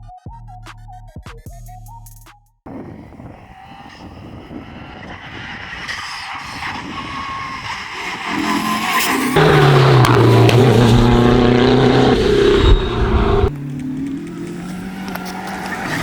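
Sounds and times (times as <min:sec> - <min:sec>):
rally car engine: 0:02.7 - 0:16.0.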